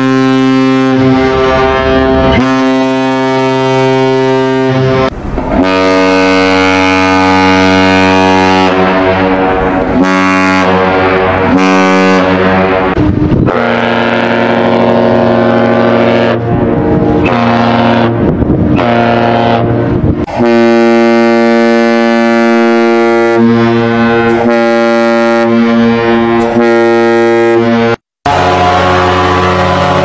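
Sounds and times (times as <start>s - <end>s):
ship air horn blasts: 0.0s - 30.0s.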